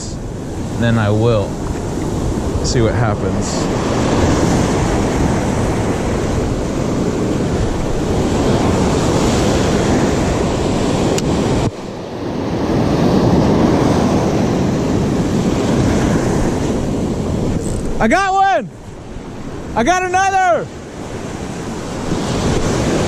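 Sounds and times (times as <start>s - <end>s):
surf washing and breaking: 0.0s - 23.0s
wind rushing over microphone: 0.0s - 23.0s.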